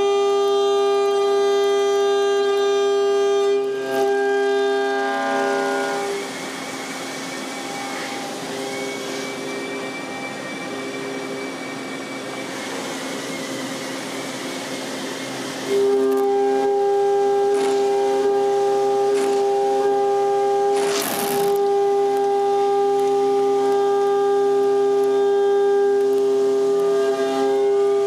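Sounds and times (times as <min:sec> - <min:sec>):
milling machine cutting whine: 0:00.0 - 0:28.0.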